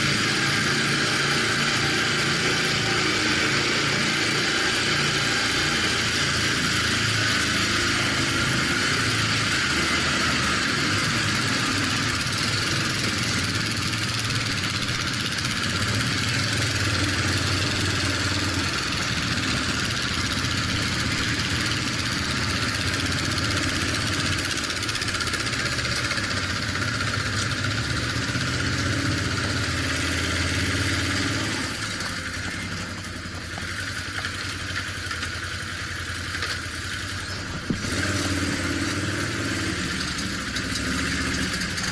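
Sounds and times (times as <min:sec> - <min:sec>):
off-road vehicle engine: 0:00.0 - 0:41.9.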